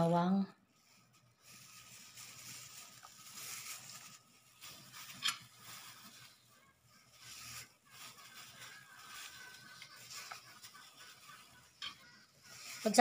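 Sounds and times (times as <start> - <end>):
plastic glove rustling: 0.0 - 13.0.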